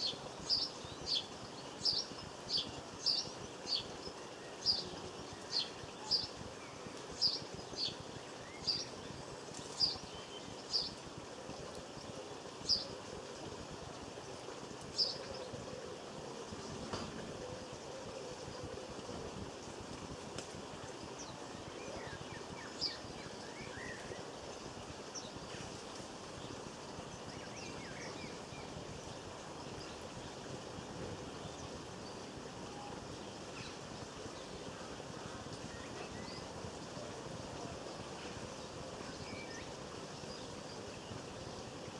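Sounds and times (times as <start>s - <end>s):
steady background hiss: 0.0s - 41.9s.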